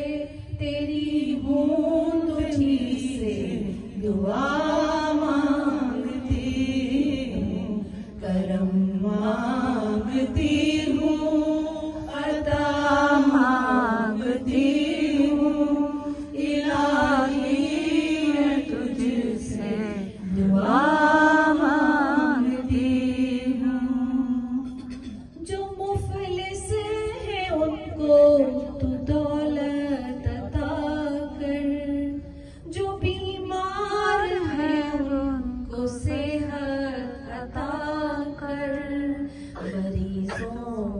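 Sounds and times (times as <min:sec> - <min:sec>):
woman chanting into microphone: 0:00.0 - 0:40.9.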